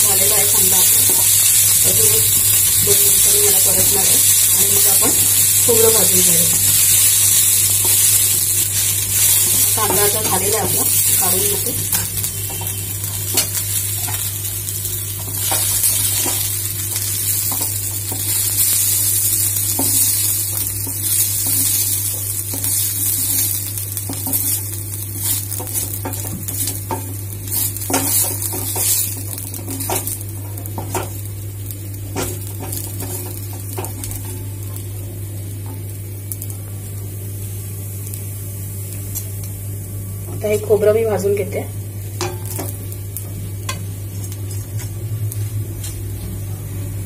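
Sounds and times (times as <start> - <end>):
onions sizzling in hot oil: 0.0 - 47.0
steady low hum: 0.0 - 47.0.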